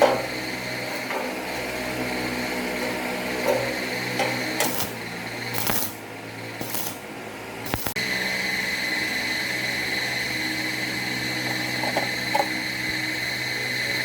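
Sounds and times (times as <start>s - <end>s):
bench drill whining: 0.0s - 7.0s, 7.6s - 14.0s.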